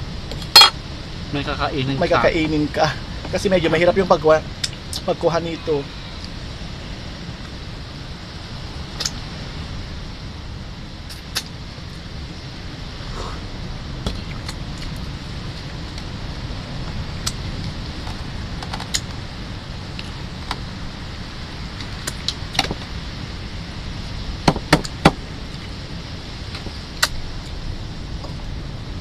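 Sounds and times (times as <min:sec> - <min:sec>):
low background rumble: 0:00.0 - 0:29.0.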